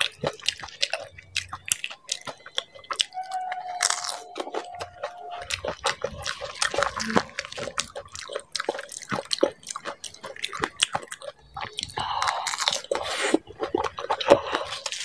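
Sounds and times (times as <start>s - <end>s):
crisp food crunching in mouth: 0.0s - 15.0s
wet mouth sounds: 0.0s - 15.0s.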